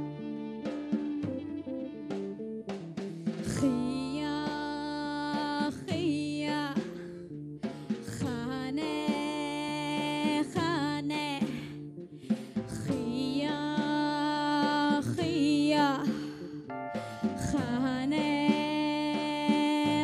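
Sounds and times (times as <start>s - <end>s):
live band with drums: 0.0s - 20.0s.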